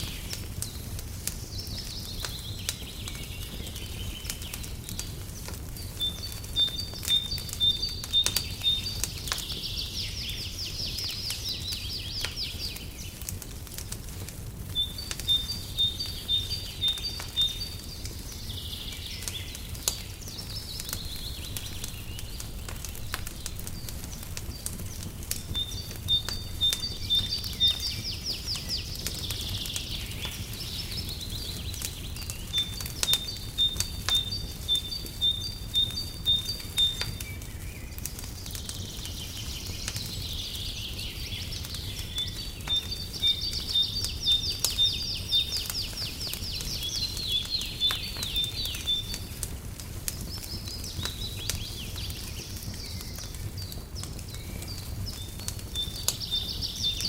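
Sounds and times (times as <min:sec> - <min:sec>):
songbird singing trills: 0:00.0 - 0:13.2, 0:14.6 - 0:49.5, 0:50.1 - 0:57.0
wood fire crackling: 0:00.0 - 0:57.0.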